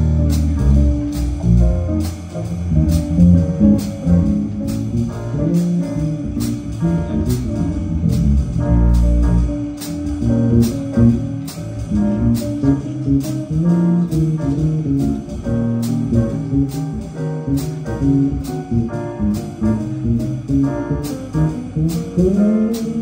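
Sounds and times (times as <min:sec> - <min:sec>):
bass line: 0:00.0 - 0:23.0
cymbal beat: 0:00.0 - 0:23.0
piano chords: 0:00.0 - 0:23.0.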